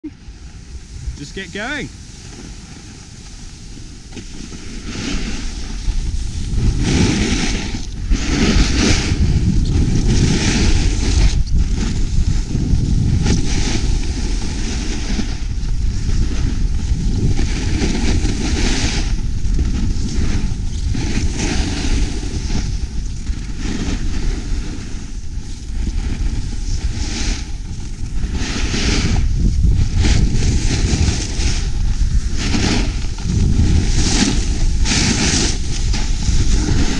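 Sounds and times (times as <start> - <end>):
wind rushing over microphone: 0.0 - 36.9
skis scraping across packed snow: 0.3 - 36.9.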